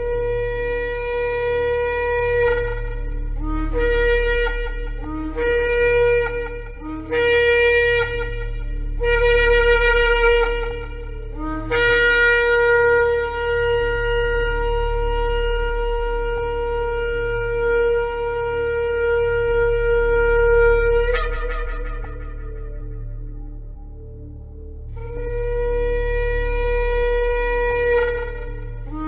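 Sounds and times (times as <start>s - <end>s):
shofar blowing: 0.0s - 29.0s.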